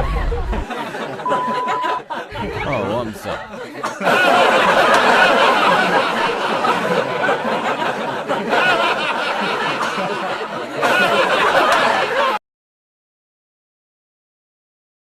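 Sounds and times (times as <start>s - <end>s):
crowd laughing: 0.0s - 12.4s.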